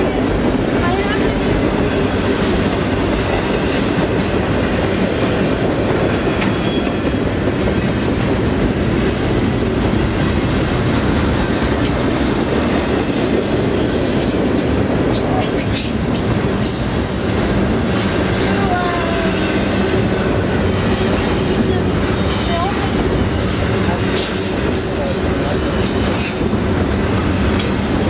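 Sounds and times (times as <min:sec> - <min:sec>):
steel wheels rumbling on rail: 0:00.0 - 0:28.0.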